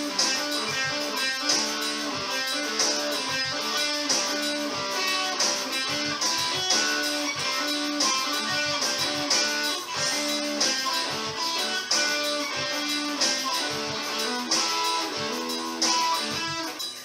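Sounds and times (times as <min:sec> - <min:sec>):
electric guitar funky riff: 0:00.0 - 0:17.0.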